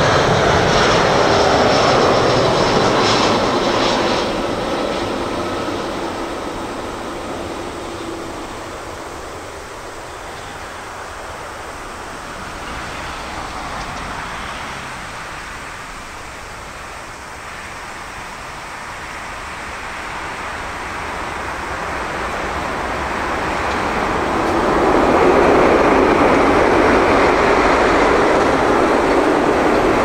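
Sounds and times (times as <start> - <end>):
jet engine rushing: 0.0 - 30.0.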